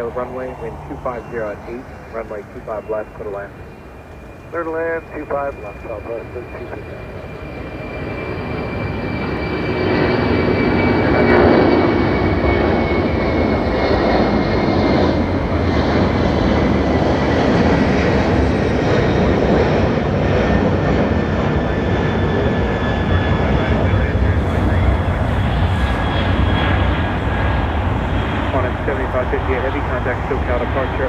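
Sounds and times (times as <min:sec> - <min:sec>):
high jet whine falling in pitch: 0:00.0 - 0:31.0
jet engines roaring: 0:00.0 - 0:31.0.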